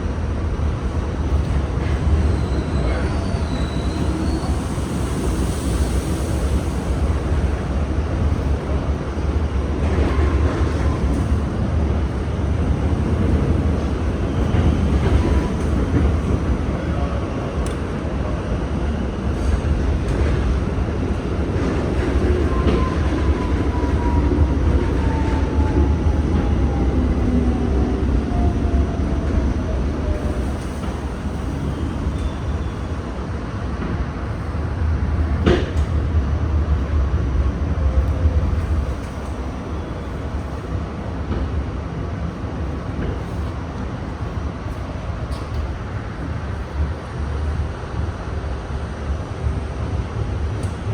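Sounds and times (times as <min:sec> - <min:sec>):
subway car rumbling on track: 0:00.0 - 0:50.9.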